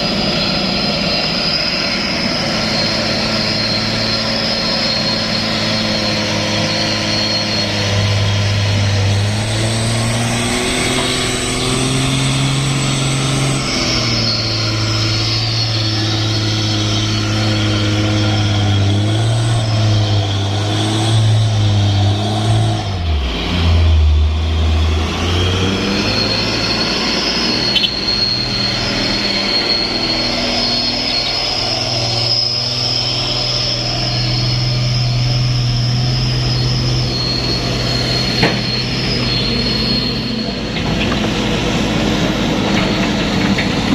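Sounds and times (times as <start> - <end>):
truck engine labouring: 0.0 - 43.9.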